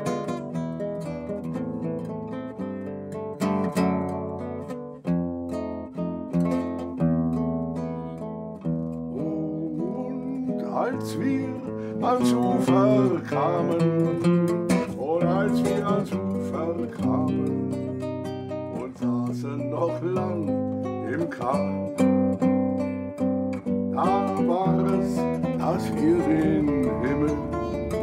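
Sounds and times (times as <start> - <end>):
acoustic guitar chords: 0.0 - 28.0.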